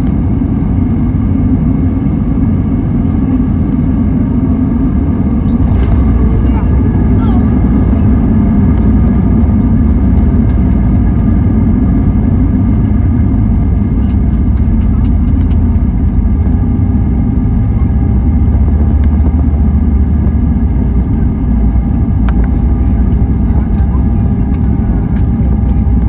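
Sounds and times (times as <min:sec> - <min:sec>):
airplane cabin engine roar: 0:00.0 - 0:26.0
faint steady whines: 0:00.0 - 0:26.0.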